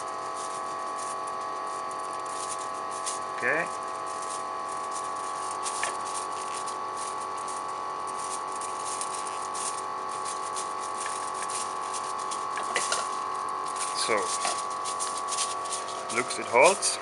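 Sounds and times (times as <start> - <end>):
equipment humming: 0.0 - 17.0
rustles and clicks of cable ties: 0.0 - 17.0.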